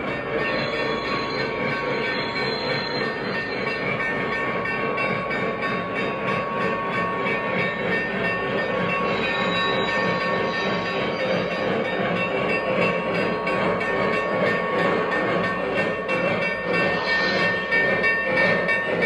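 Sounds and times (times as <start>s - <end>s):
model train running on track: 0.0s - 19.0s
steam sound effects: 0.0s - 19.0s.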